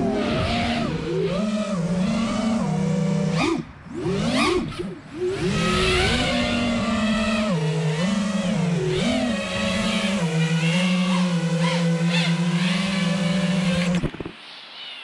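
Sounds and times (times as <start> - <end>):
drone motors buzzing whine: 0.0 - 14.4.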